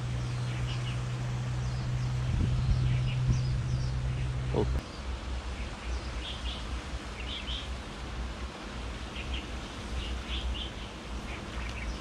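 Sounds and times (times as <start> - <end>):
small birds chirping: 0.0 - 7.8, 9.1 - 12.0
steady low rumble: 0.0 - 12.0.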